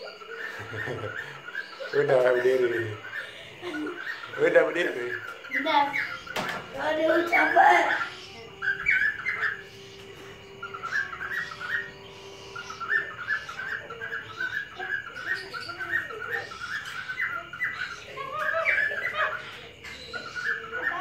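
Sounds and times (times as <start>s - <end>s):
cockatiels chirping: 0.0s - 21.0s.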